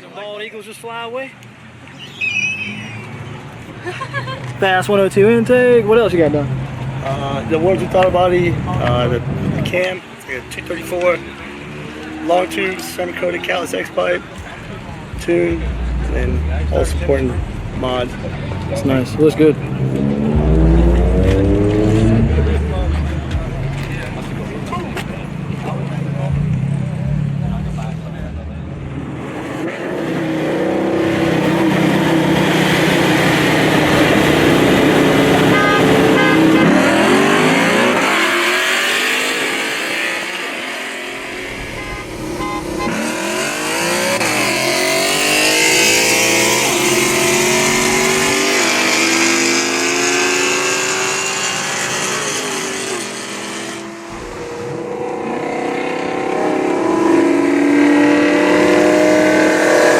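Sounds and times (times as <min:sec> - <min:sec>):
car engines revving: 0:01.4 - 0:59.9.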